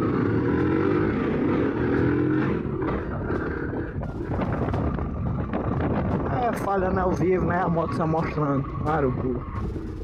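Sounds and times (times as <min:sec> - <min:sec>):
motorcycle engine sputtering: 0:00.0 - 0:10.0.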